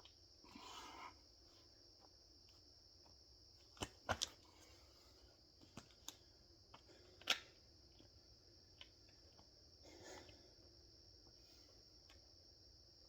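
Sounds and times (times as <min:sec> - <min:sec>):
faint high-pitched hiss: 0:00.0 - 0:13.0.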